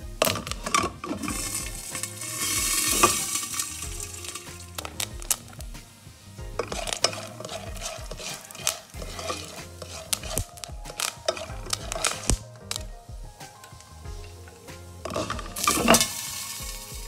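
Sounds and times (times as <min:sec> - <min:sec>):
kernels rattling in a pan: 0:00.2 - 0:05.7, 0:06.4 - 0:12.9, 0:13.6 - 0:17.0.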